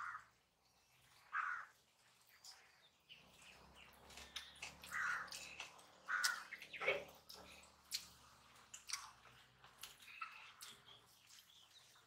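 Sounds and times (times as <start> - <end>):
people chewing: 0.7 - 12.0.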